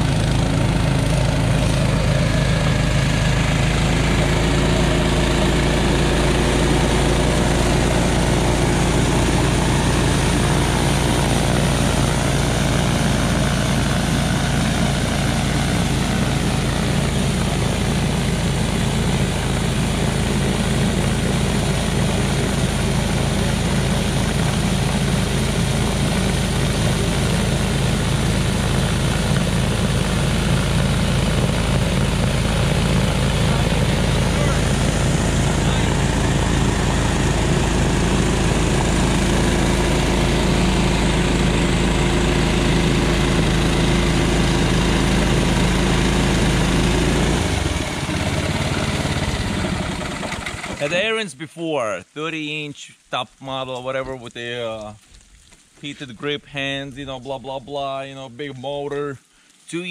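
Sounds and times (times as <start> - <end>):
snowblower engine running: 0.0 - 51.2
auger churning snow: 0.0 - 51.9.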